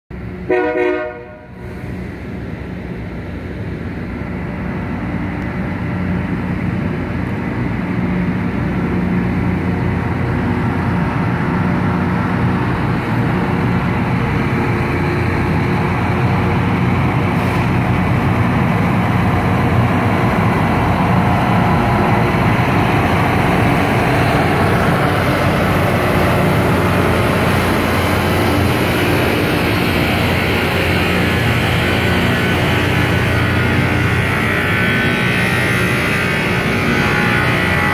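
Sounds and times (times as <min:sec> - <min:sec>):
diesel engines humming: 0:00.1 - 0:37.9.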